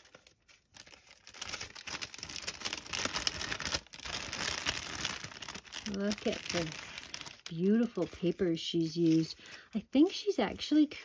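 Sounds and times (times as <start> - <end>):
cellophane packet crinkling: 0.0 - 10.8.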